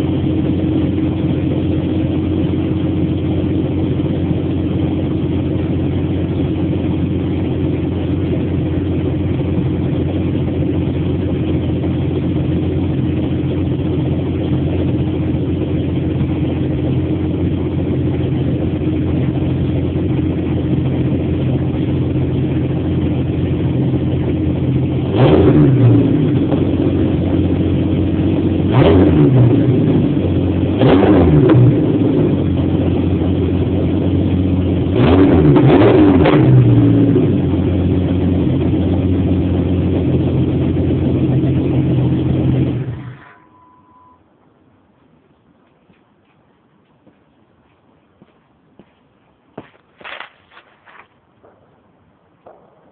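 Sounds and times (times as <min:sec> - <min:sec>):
car engine idling and revving: 0:00.0 - 0:44.2.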